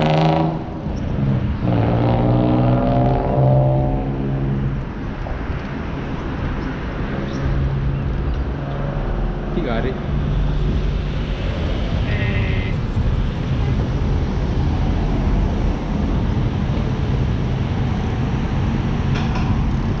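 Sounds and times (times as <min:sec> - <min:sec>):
car traffic passing: 0:00.0 - 0:20.0.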